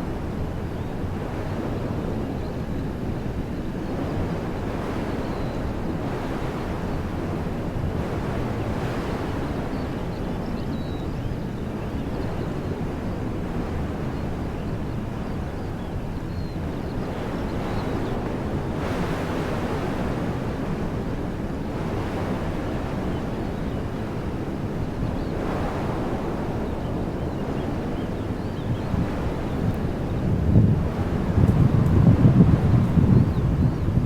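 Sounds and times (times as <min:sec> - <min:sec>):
wind blowing through trees: 0:00.0 - 0:34.0
wind buffeting on microphone: 0:00.0 - 0:34.0.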